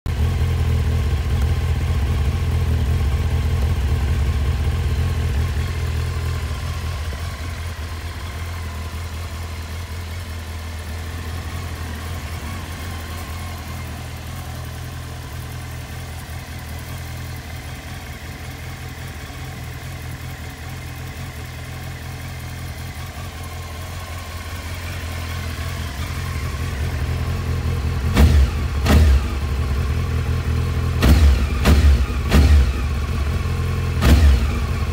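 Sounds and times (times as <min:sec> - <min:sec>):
engine throttle blips: 0:00.1 - 0:34.9
motorcycle engine idling: 0:00.1 - 0:34.9.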